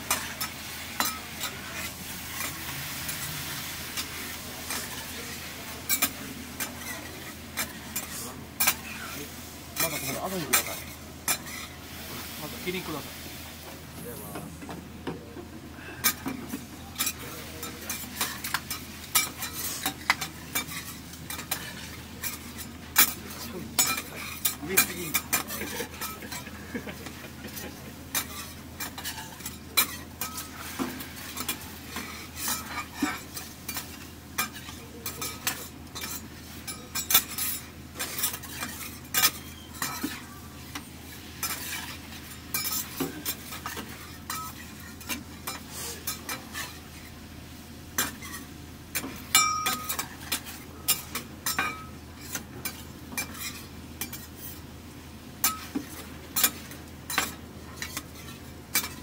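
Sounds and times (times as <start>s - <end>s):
metal utensils scraping pan: 0.0s - 11.8s, 17.0s - 47.1s, 48.0s - 54.6s, 55.4s - 59.0s
food sizzling: 0.0s - 14.3s, 16.1s - 59.0s.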